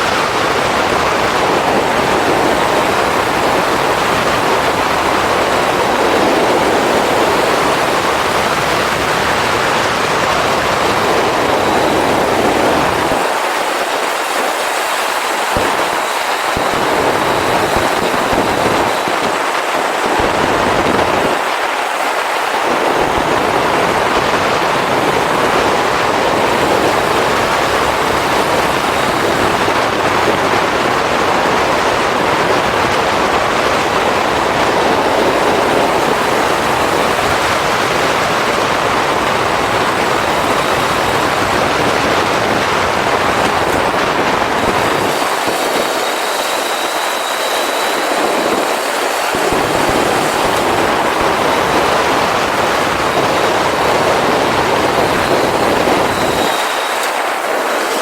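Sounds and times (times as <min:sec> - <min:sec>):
motorcycle road noise: 0:00.0 - 0:58.0
wind rushing: 0:00.0 - 0:58.0.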